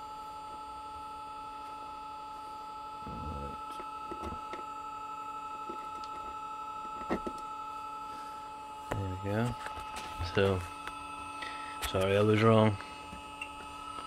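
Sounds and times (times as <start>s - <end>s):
two-tone electrical whine: 0.0s - 14.0s.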